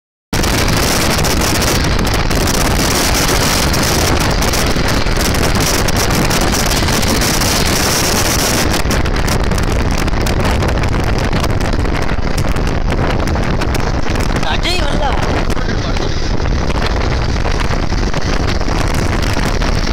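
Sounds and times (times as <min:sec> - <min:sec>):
road noise: 0:00.4 - 0:19.9
wind rushing over microphone: 0:00.4 - 0:19.9.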